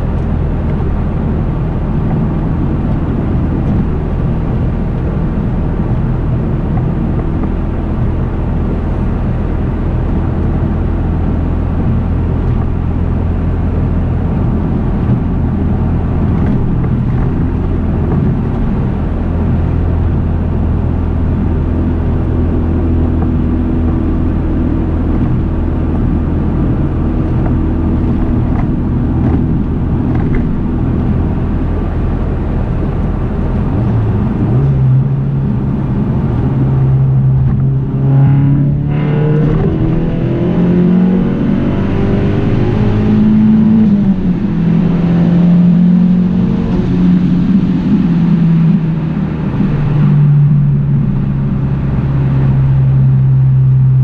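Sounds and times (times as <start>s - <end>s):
car engine cruising: 0.0s - 54.0s
road noise inside car: 0.0s - 54.0s.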